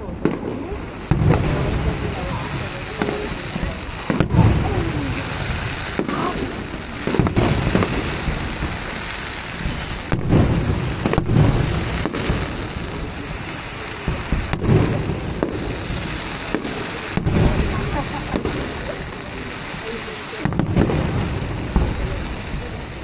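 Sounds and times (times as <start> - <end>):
firework booms and cracks: 0.0 - 23.0
firework crackling: 0.0 - 23.0.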